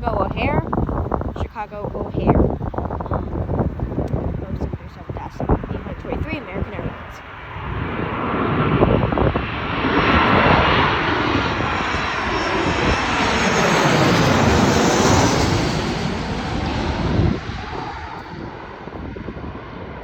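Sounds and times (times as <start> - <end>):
jet airliner engines passing: 0.0 - 20.0.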